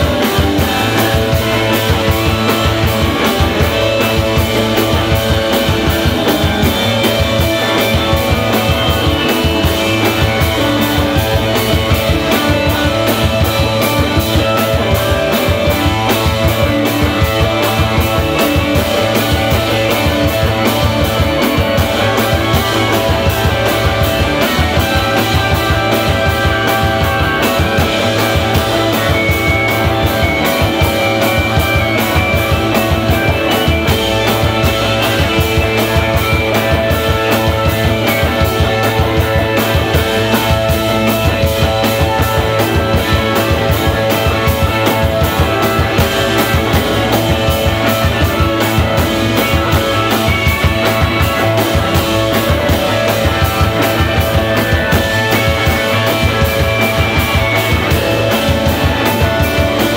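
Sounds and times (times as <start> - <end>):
drum kit beat: 0.0 - 59.9
electric guitars: 0.0 - 59.9.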